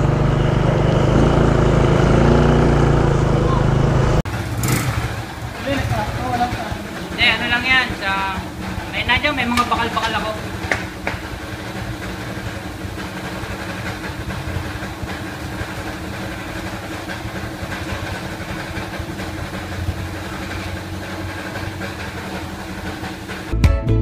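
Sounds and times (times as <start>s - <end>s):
motorcycle engine idling: 0.0s - 23.6s.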